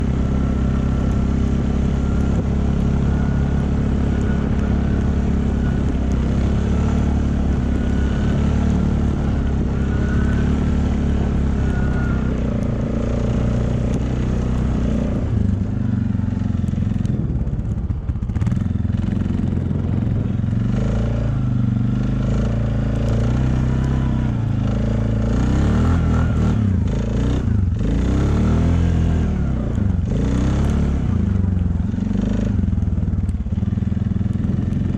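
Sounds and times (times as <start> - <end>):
vehicle engine revving: 0.0 - 34.9.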